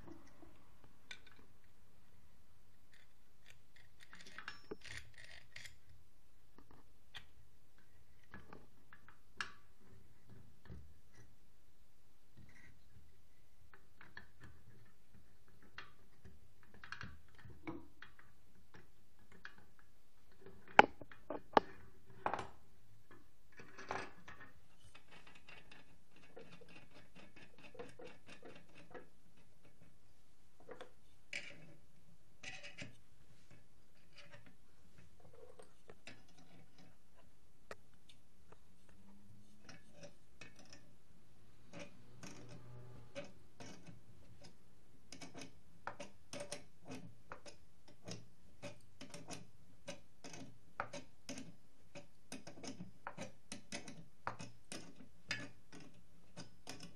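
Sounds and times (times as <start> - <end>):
small metal clicks and knocks: 0.0 - 1.5, 2.9 - 11.3, 13.7 - 30.0, 30.6 - 31.8, 32.4 - 40.9, 41.6 - 56.9.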